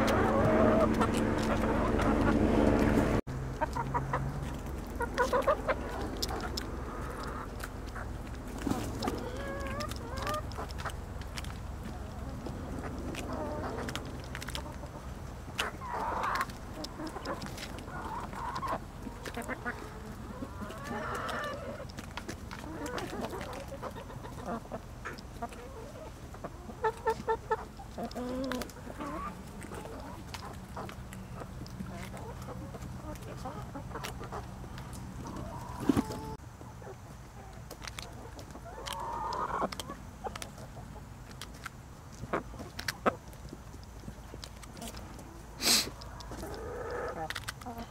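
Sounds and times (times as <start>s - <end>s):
hens clucking: 0.0s - 47.9s.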